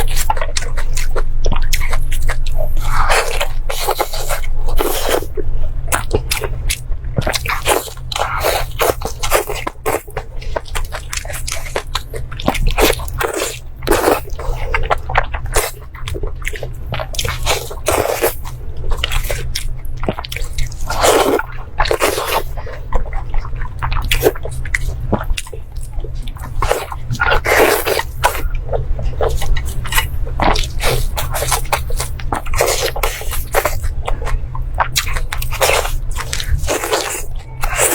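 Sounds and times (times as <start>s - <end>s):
person chewing and eating: 0.0s - 37.9s
steady low hum: 0.0s - 37.9s.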